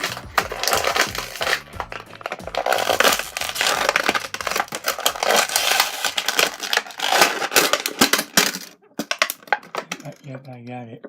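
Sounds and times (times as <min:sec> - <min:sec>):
plastic packaging clicks and crinkles: 0:00.0 - 0:10.6.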